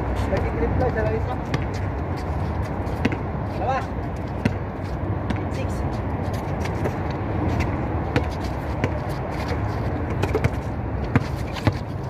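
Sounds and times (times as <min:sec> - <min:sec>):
basketball bouncing on concrete: 0:00.2 - 0:05.7, 0:06.3 - 0:12.0.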